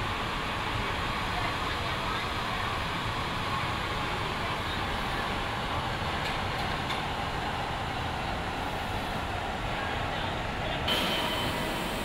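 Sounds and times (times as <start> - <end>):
machinery and conveyor din: 0.0 - 12.0.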